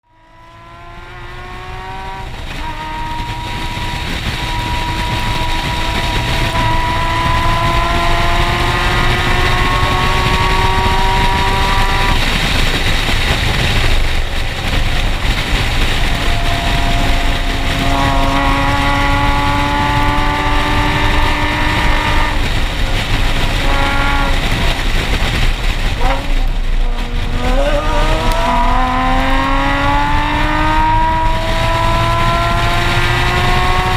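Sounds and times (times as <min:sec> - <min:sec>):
car engine revving through gears: 0:00.1 - 0:33.9
wind noise: 0:00.3 - 0:33.9.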